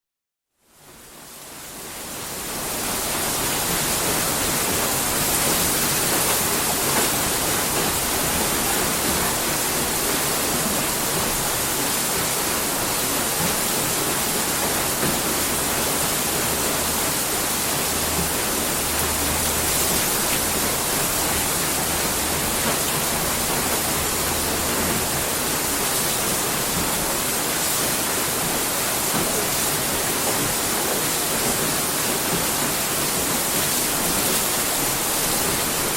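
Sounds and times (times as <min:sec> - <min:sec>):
water mill wheel turning: 0:01.8 - 0:35.9
water pouring and splashing: 0:02.2 - 0:35.9.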